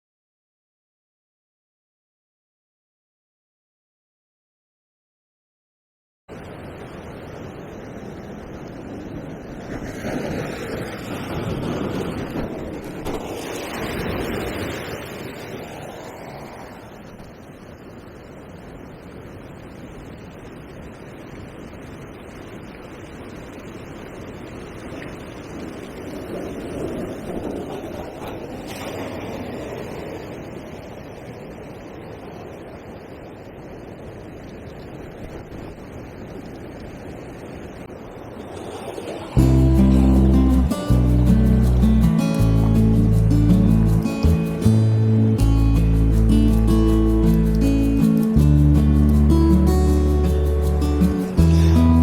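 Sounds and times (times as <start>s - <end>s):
surf breaking over rocks: 6.3s - 52.0s
wind buffeting microphone: 6.4s - 52.0s.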